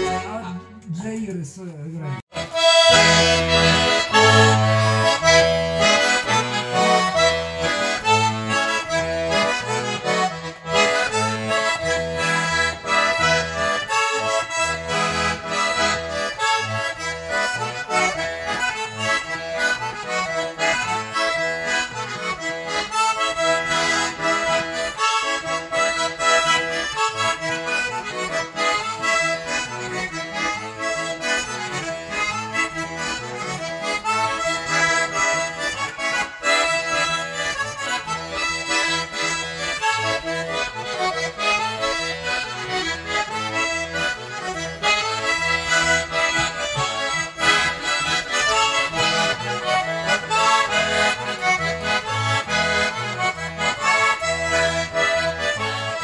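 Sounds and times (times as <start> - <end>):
button accordion playing melody: 0.0 - 56.0.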